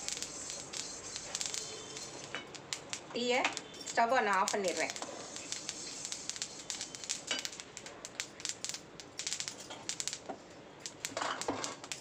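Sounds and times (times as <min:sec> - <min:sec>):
seeds popping and crackling in a pan: 0:00.0 - 0:12.0.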